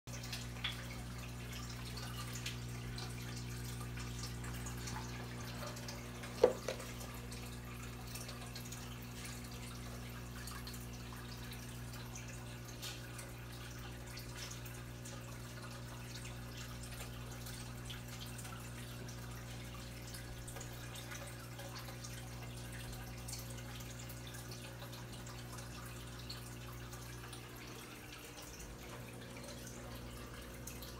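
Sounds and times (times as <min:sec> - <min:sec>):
aquarium pump hum: 0:00.1 - 0:30.9
water dripping and bubbling: 0:00.1 - 0:30.9.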